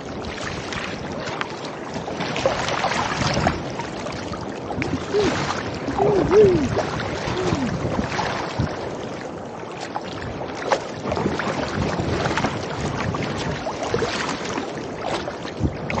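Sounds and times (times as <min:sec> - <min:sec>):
paddle splashes: 0:00.0 - 0:16.0
water sloshing against kayak hull: 0:00.0 - 0:16.0.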